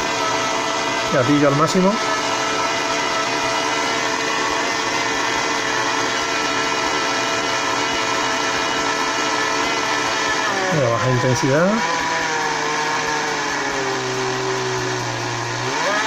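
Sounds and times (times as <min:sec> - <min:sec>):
small electric motor whine: 0:00.0 - 0:16.0.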